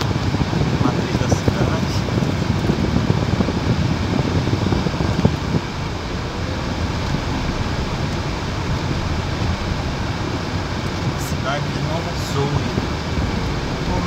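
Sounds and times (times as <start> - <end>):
tyres rumbling over cobblestones: 0.0 - 14.0
car engine: 1.0 - 14.0.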